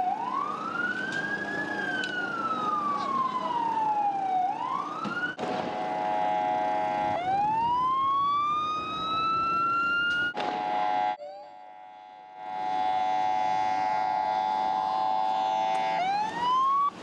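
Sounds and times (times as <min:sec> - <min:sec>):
ambulance siren wailing: 0:00.0 - 0:17.0
steady multi-tone siren blare: 0:00.0 - 0:17.0.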